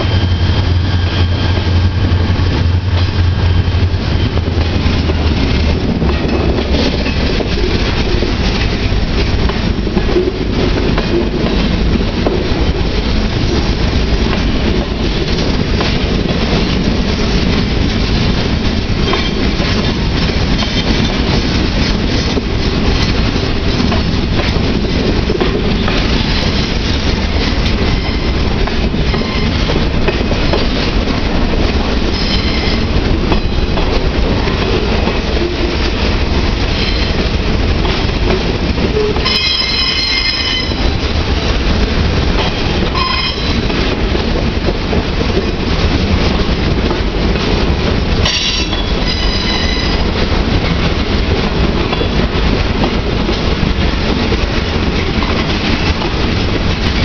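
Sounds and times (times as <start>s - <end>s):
clickety-clack over rail joints: 0.0s - 57.0s
diesel locomotive hum: 0.0s - 57.0s
train wheels rumbling on rails: 0.0s - 57.0s.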